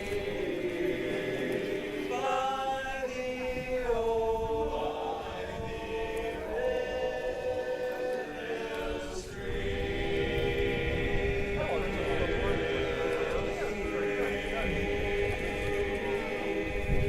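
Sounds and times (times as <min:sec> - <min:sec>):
a cappella harmony singing: 0:00.0 - 0:17.0.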